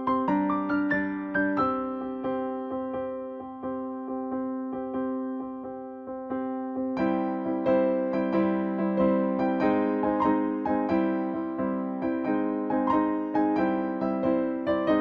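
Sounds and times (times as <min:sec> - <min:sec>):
gentle keyboard music: 0:00.0 - 0:15.0.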